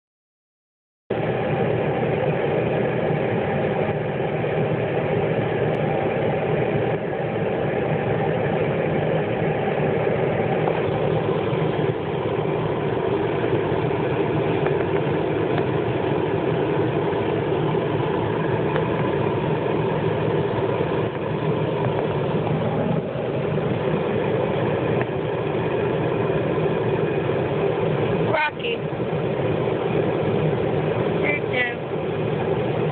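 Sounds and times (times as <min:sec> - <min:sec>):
car engine idling: 0:01.1 - 0:32.9.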